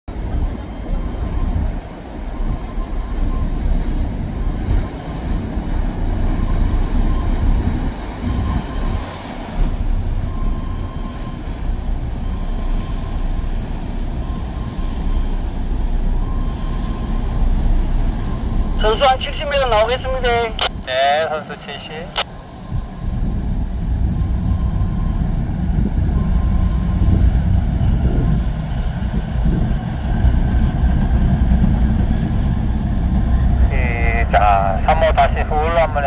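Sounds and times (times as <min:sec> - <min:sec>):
diesel engines rumbling: 0:00.1 - 0:36.0.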